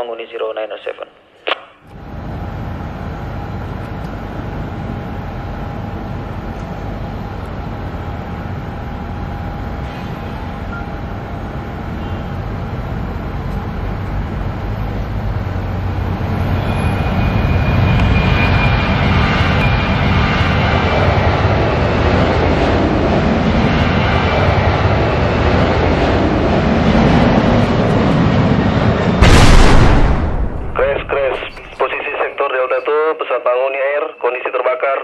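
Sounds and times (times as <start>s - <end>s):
jet engines running up: 1.9s - 32.7s.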